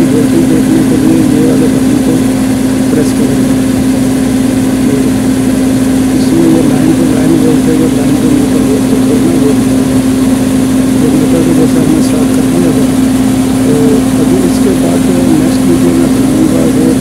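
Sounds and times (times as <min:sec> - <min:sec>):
diesel generator humming: 0:00.0 - 0:17.0.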